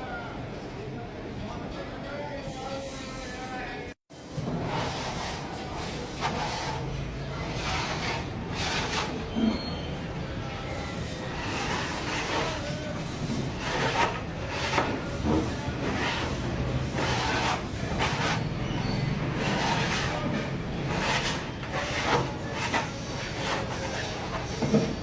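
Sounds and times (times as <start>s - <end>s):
tools scraping and knocking: 4.3s - 25.0s.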